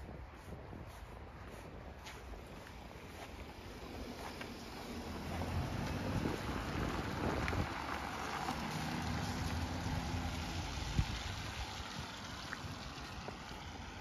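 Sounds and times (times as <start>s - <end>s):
car engine hum: 1.4s - 14.0s
tyres hissing on wet paving: 2.7s - 14.0s.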